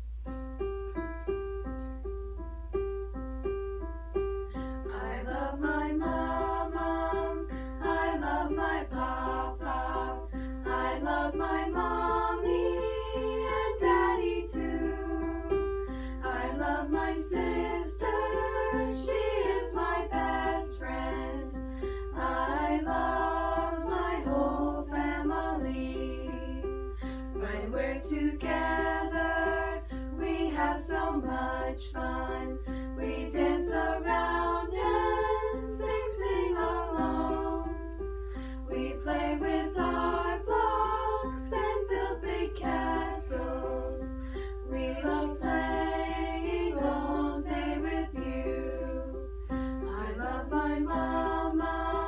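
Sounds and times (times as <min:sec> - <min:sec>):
electric piano chords: 0:00.0 - 0:52.0
girls singing together: 0:04.9 - 0:52.0.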